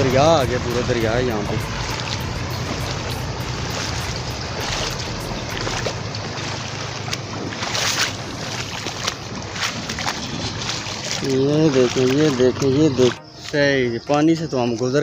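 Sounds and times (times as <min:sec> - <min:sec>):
person wading and splashing: 0:00.0 - 0:14.5
floodwater rushing: 0:00.0 - 0:14.8.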